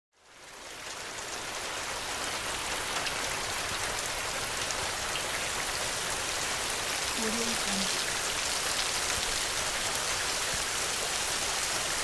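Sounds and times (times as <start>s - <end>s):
steady rain falling: 0.2s - 12.0s.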